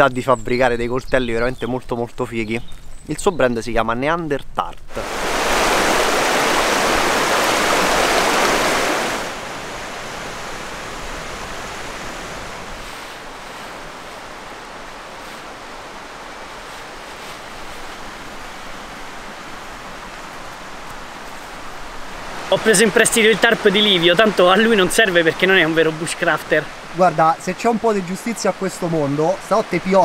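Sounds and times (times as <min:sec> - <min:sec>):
river water rushing over rocks: 0:04.9 - 0:30.0.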